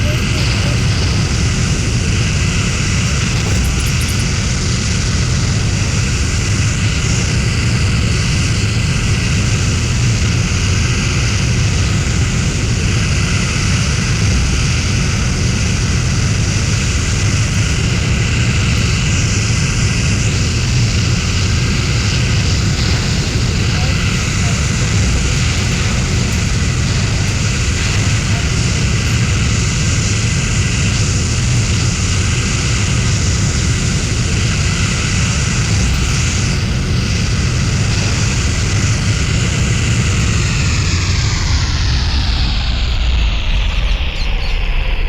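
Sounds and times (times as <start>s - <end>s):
aircraft engine noise: 0.0s - 45.0s
faint steady whine: 0.0s - 45.0s.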